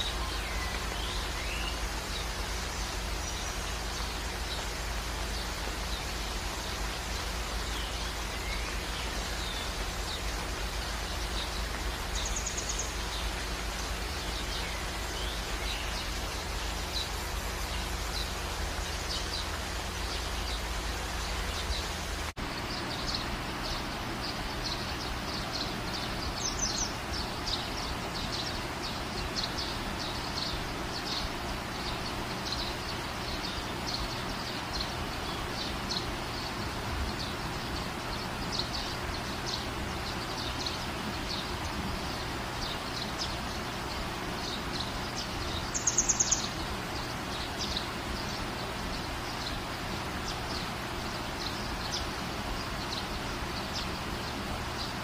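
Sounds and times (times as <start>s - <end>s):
outdoor background hiss: 0.0s - 55.0s
small birds chirping: 0.0s - 55.0s.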